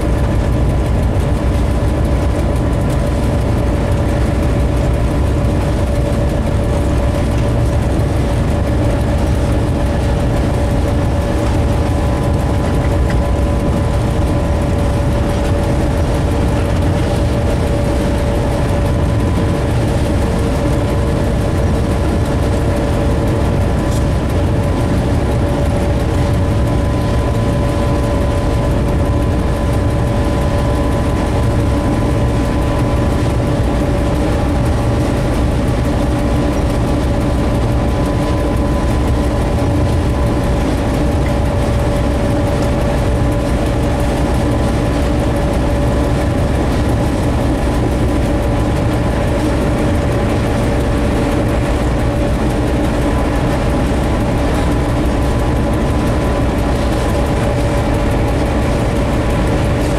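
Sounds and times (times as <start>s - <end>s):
diesel locomotive engine running: 0.0s - 59.9s.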